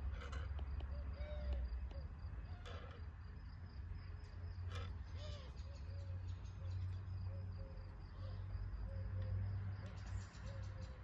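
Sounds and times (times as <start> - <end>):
constant low rumble: 0.0 - 11.0
insects chirping: 0.0 - 11.0.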